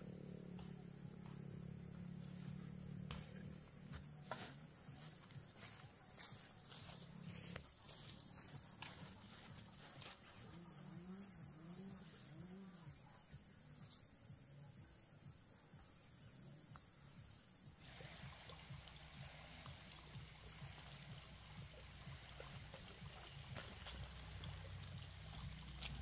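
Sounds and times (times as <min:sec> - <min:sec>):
rapidly pulsing insect trill: 0:00.0 - 0:26.0
insects trilling chorus: 0:05.0 - 0:26.0.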